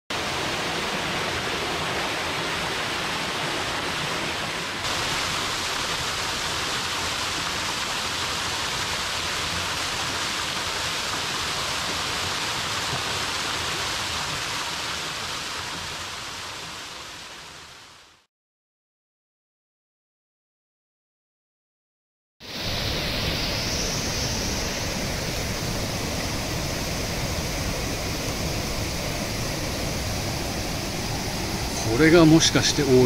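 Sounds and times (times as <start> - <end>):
waterfall rushing: 0.1 - 18.2, 22.4 - 33.0.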